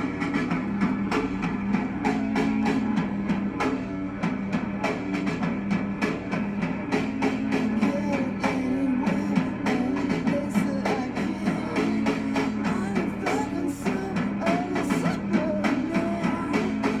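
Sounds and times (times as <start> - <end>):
distorted electric guitar: 0.0 - 17.0
steady drum beat: 0.0 - 17.0.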